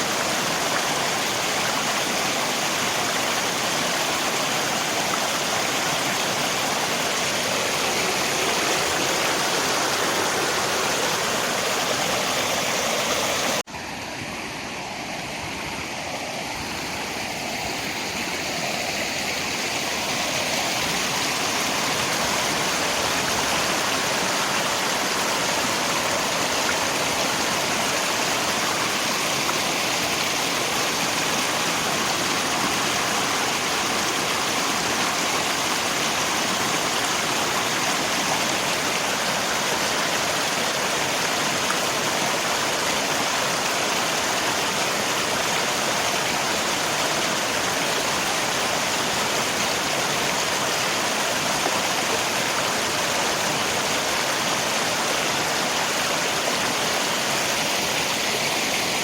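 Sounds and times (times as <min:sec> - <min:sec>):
rain: 0:00.0 - 0:59.0
river water rushing: 0:00.0 - 0:59.0.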